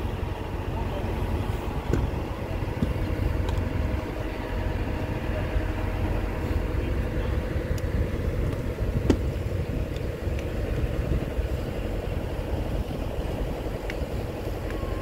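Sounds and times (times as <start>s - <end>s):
faint hum: 0.0s - 15.0s
ferry engine droning: 0.0s - 15.0s.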